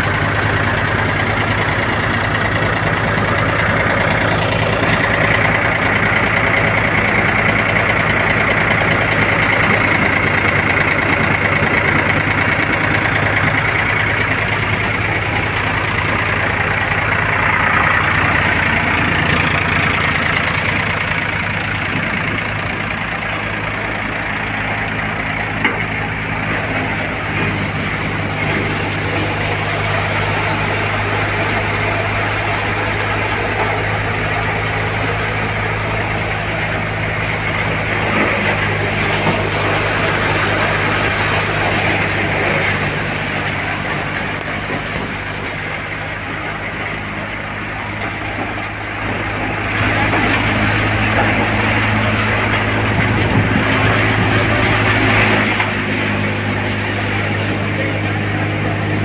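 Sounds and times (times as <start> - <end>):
rushing noise of threshing machine: 0.0 - 59.0
thresher engine and drum hum: 0.0 - 59.0.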